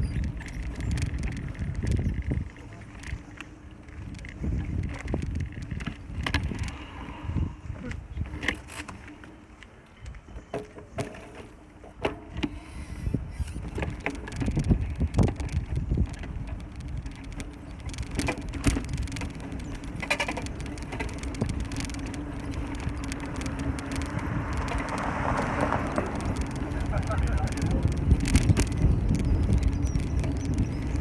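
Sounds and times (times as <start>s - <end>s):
bicycle tyre rumble: 0.0s - 31.0s
bike rattles and clicks: 0.0s - 31.0s.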